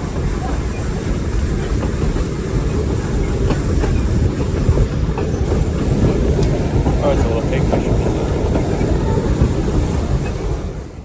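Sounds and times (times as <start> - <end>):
train rumbling on rails: 0.0 - 11.0
train wheels clacking: 0.0 - 11.0.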